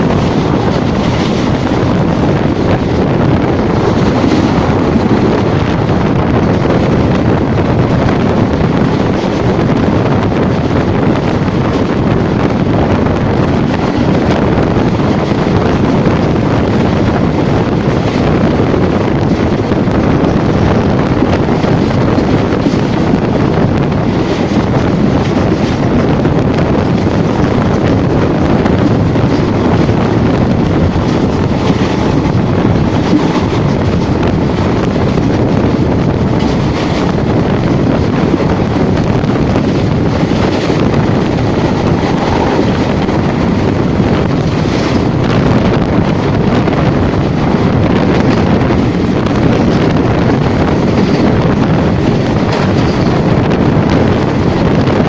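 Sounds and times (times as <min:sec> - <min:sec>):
moving train rumble: 0:00.0 - 0:55.0
wind buffeting microphone: 0:00.0 - 0:55.0.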